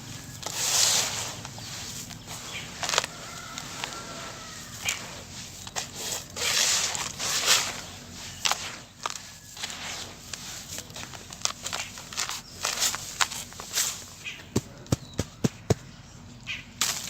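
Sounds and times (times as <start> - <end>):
falling grit hissing: 0.0 - 14.2
cement lumps crunching: 0.0 - 17.0.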